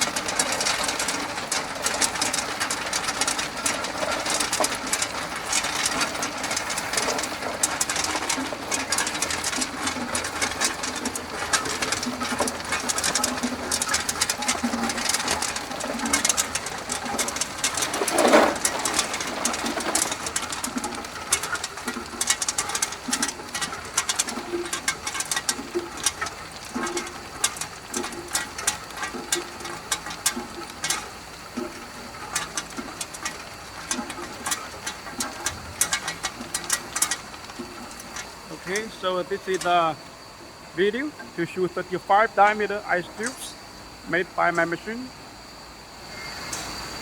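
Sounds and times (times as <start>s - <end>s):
ice tubes clattering: 0.0s - 47.0s.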